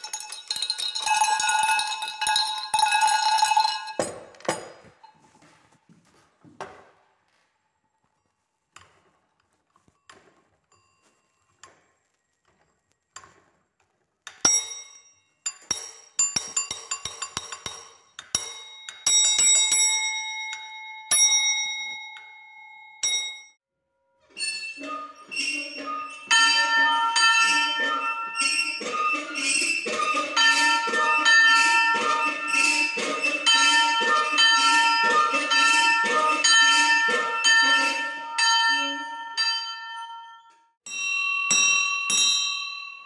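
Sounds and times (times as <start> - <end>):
small metal bell ringing: 0.0 - 5.3, 9.9 - 11.9, 14.3 - 23.6, 24.4 - 43.0.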